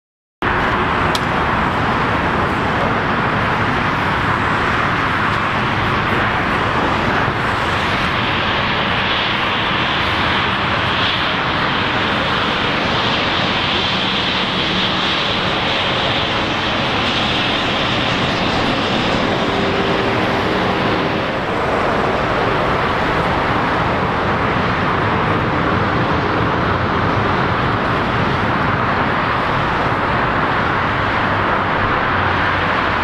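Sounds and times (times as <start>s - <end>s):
high turbine whine: 0.4s - 33.0s
jet engine roar: 0.4s - 33.0s.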